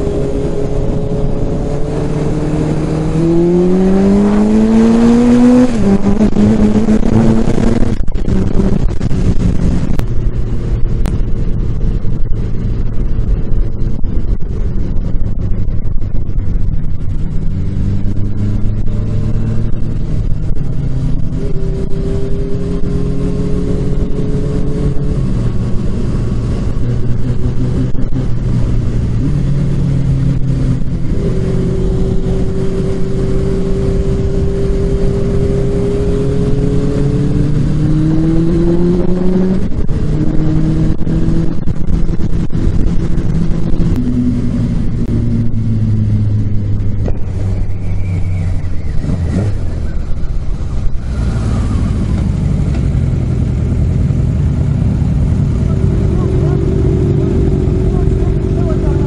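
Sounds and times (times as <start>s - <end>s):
wind rushing past: 0.0s - 53.6s
motorcycle engine at speed: 0.0s - 59.0s.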